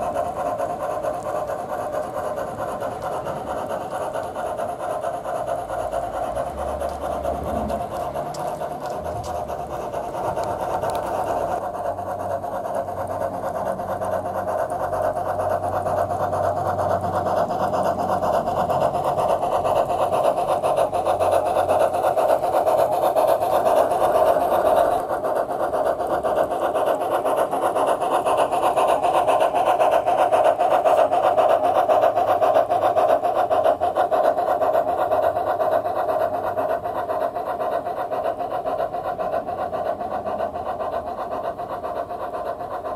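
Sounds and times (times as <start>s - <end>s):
model steam engine sound: 0.0s - 42.9s
model train wheels on rails: 0.0s - 42.9s.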